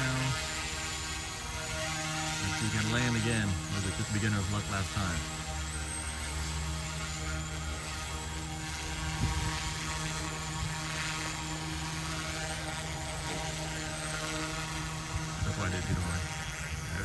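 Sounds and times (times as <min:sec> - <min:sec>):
remote-control helicopter whine: 0:00.0 - 0:17.0.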